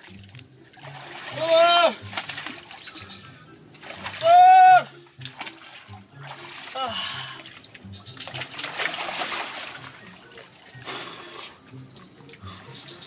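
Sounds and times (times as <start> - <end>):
splashing in muddy water: 0.0 - 12.9.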